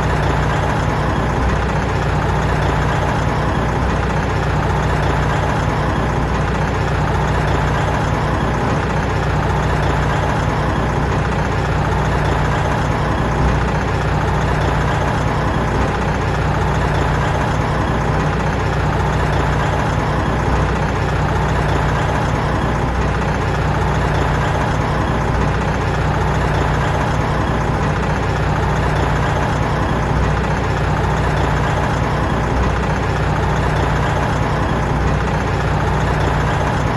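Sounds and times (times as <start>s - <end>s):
truck diesel engine running: 0.0s - 36.9s.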